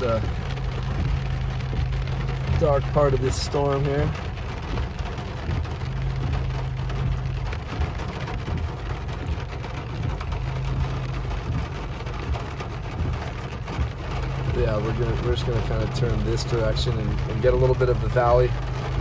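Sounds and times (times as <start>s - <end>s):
car low hum: 0.0s - 19.0s
rain on car windshield: 0.0s - 19.0s.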